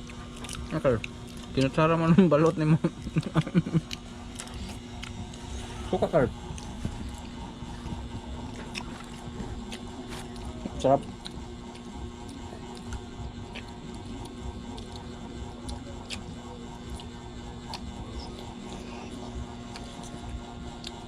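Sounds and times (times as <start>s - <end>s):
steady room hum: 0.0s - 21.0s.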